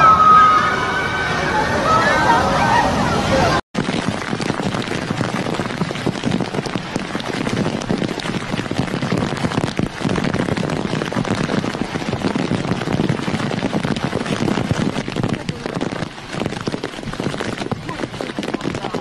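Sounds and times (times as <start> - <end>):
heavy rain on hard surface: 0.0 - 19.0.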